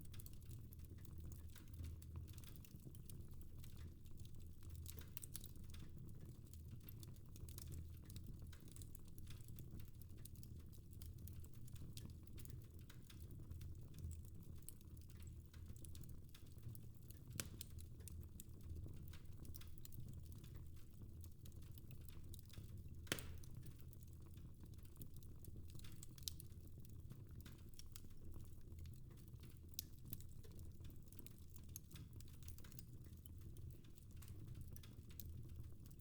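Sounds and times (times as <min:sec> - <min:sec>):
fireplace fire crackling: 0:00.0 - 0:36.0.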